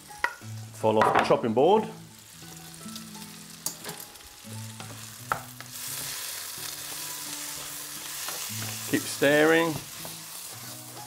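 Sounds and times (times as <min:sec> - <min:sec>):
vegetables sizzling in a pan: 0:00.0 - 0:01.0, 0:01.6 - 0:11.0.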